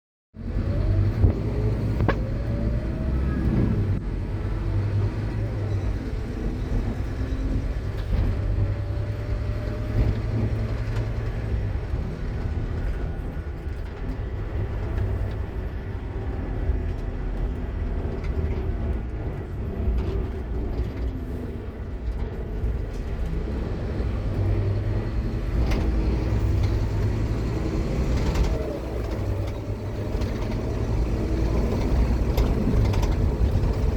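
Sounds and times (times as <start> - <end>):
bus diesel engine running: 0.4 - 33.9.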